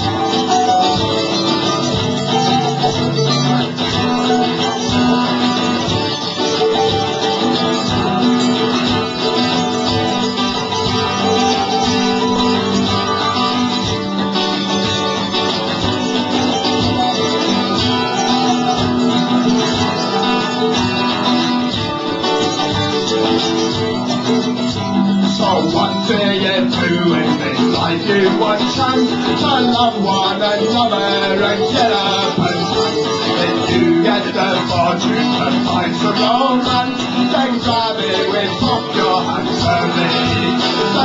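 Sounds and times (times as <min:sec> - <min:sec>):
live folk-punk band playing: 0:00.0 - 0:41.0
strummed guitar: 0:00.0 - 0:41.0.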